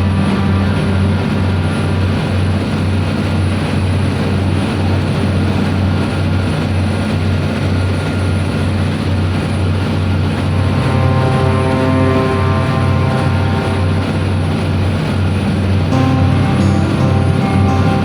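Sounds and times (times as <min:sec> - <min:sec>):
diesel engines droning: 0:00.0 - 0:18.0.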